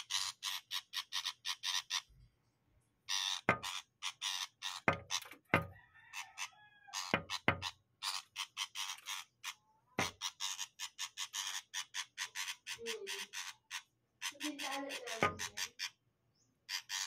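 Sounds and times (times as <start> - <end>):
bird rasping chatter calls: 0.0 - 2.1, 3.1 - 16.0, 16.6 - 17.0.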